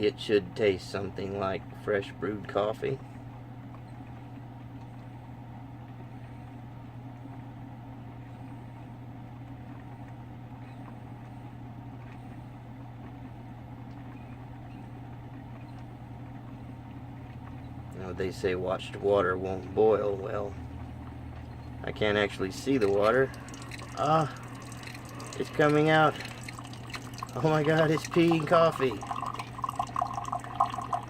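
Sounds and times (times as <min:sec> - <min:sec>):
coffee maker humming: 0:00.0 - 0:31.0.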